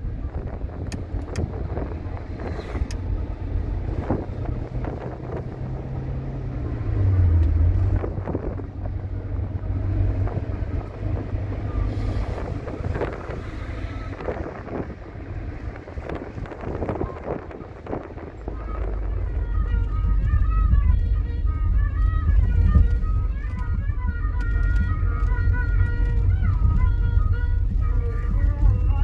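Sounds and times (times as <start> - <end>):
engine and tyre rumble: 0.0 - 29.0
wind noise: 0.0 - 29.0.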